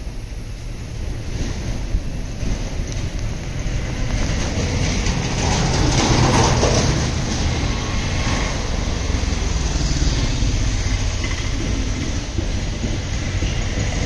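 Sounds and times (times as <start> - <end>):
vehicle engine: 0.0 - 14.0
wind noise on microphone: 0.0 - 14.0.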